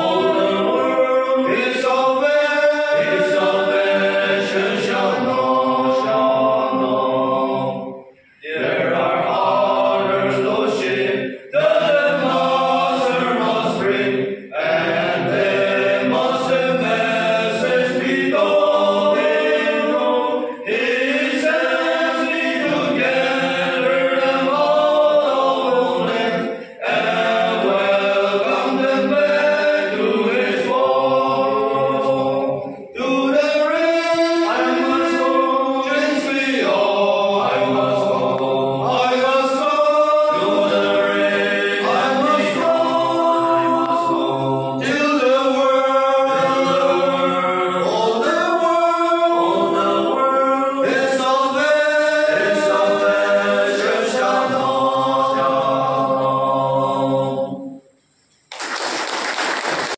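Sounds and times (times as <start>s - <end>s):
men singing a hymn: 0.0s - 57.8s.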